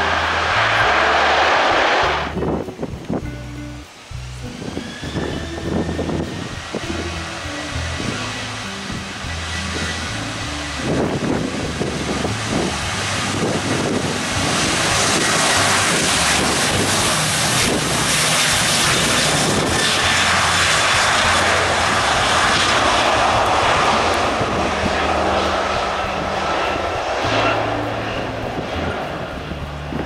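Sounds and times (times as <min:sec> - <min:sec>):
jet engines roaring: 0:00.0 - 0:30.0
wind buffeting microphone: 0:00.0 - 0:30.0.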